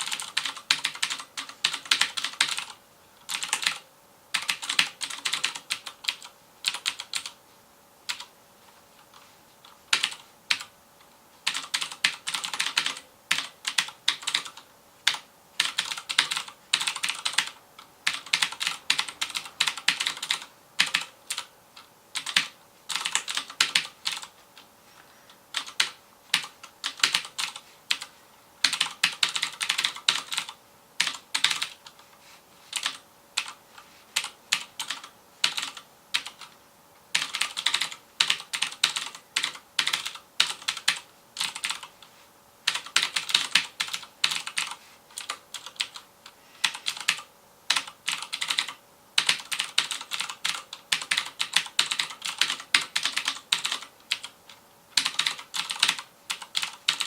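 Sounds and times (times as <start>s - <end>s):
clicky keyboard typing: 0.0s - 7.4s, 8.1s - 8.3s, 9.0s - 10.7s, 11.4s - 24.7s, 25.5s - 32.0s, 32.7s - 33.6s, 34.2s - 42.0s, 42.6s - 57.0s.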